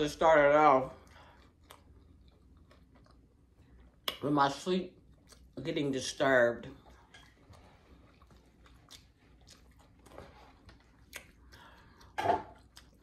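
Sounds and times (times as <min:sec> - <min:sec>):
chewing food: 0:00.4 - 0:13.0.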